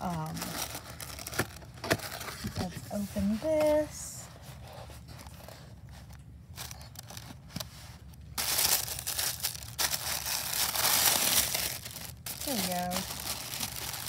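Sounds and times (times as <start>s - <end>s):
tissue paper crinkling: 0.0s - 14.0s.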